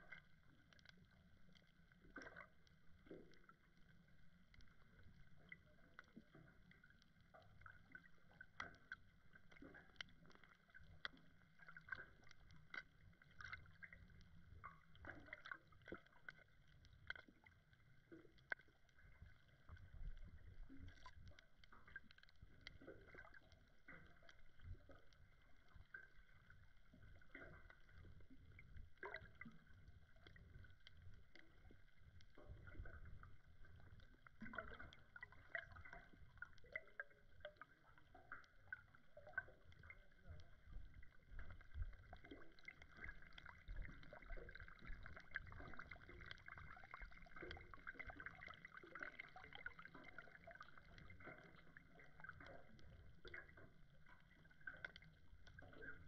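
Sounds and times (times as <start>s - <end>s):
low underwater rumble: 0.0s - 56.0s
small clicks and crackles: 0.0s - 56.0s.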